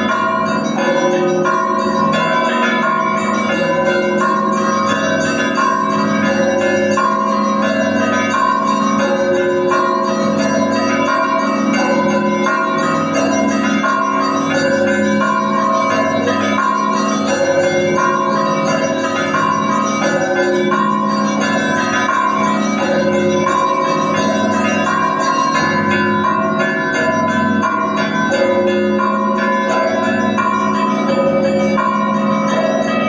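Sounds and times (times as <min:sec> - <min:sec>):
church bells ringing: 0:00.0 - 0:33.0
large bells humming: 0:00.0 - 0:33.0.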